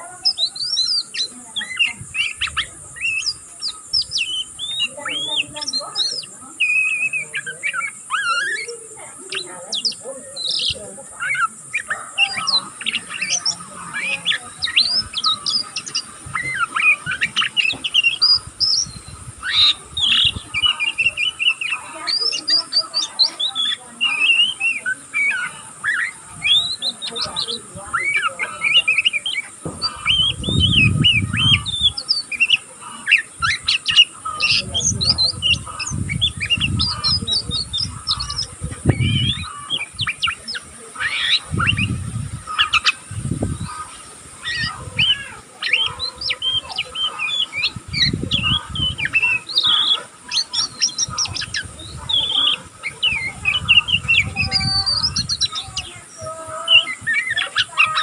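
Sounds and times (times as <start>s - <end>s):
bird twittering: 0.0s - 58.0s.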